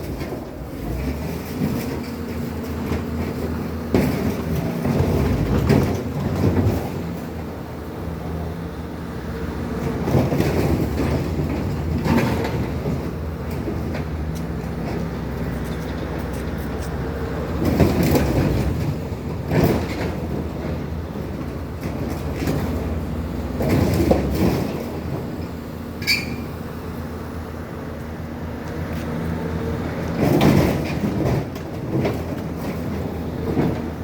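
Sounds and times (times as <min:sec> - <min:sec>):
skid-steer loaders running: 0:00.0 - 0:34.0.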